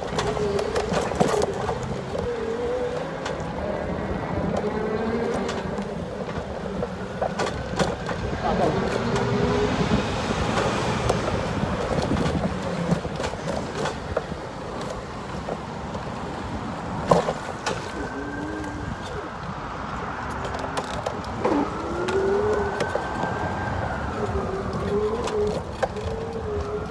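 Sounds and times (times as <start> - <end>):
car traffic hum: 0.0 - 26.9
vehicles passing: 0.0 - 26.9.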